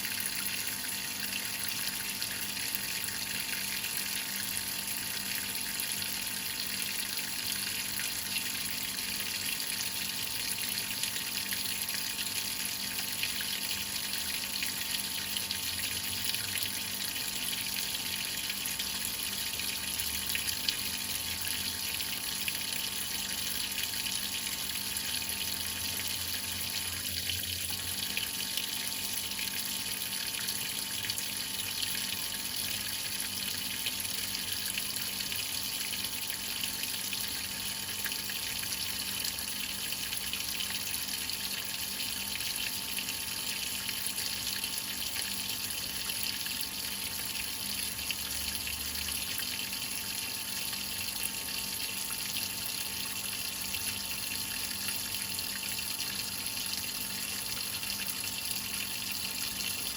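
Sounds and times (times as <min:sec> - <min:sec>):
water pouring into washing machine: 0:00.0 - 0:59.9.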